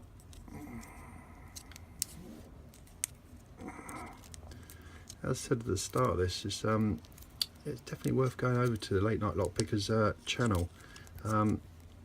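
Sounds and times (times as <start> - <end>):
quiet rustling: 0.1 - 12.0.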